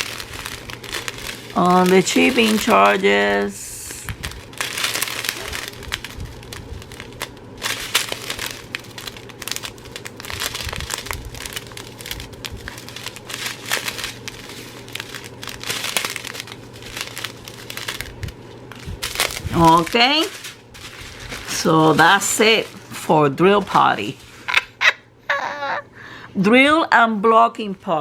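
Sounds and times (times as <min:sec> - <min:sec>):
plastic packaging crinkling: 0:00.0 - 0:24.8.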